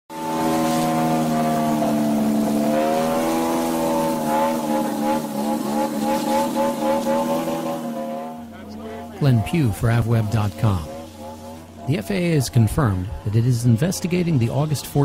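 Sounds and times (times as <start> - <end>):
propeller aircraft engine droning: 0.1 - 15.0.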